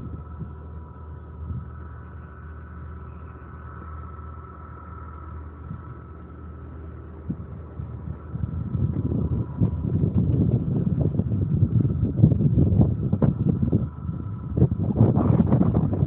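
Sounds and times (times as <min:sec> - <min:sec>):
motor humming with whine: 0:00.0 - 0:16.0.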